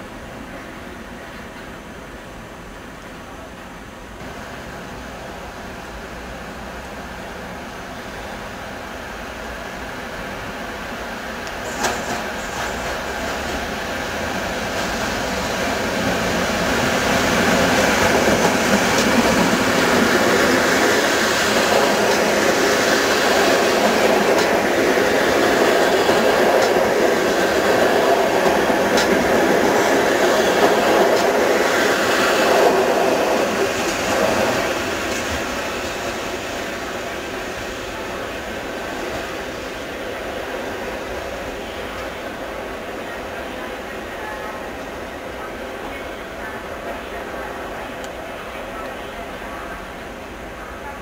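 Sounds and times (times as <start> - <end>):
train passing on rails: 0.0 - 51.0.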